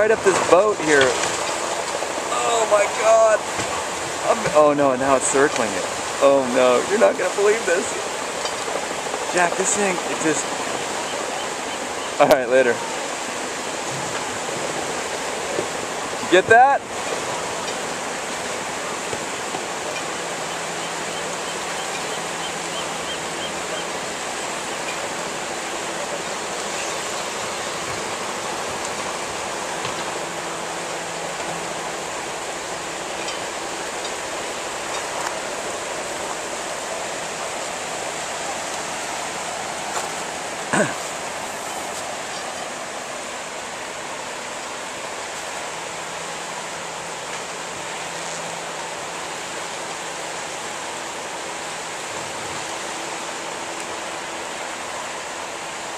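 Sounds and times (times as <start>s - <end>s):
surge water rushing: 0.0s - 55.9s.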